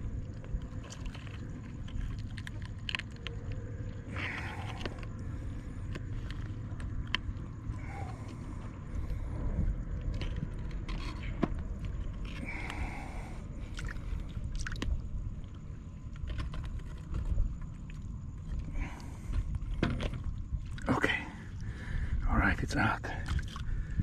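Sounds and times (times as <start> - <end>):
steady low rumble: 0.0 - 24.0
small clicks and rustles: 0.1 - 12.8, 13.6 - 20.9.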